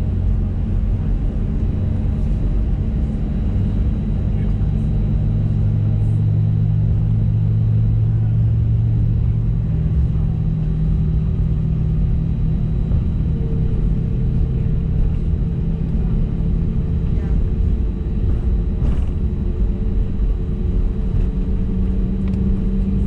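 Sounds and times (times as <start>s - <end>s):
aircraft engines rumbling in cabin: 0.0s - 23.0s.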